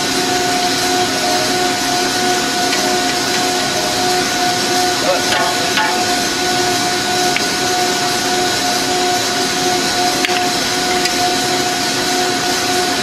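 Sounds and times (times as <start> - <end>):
factory machinery drone: 0.0 - 13.0.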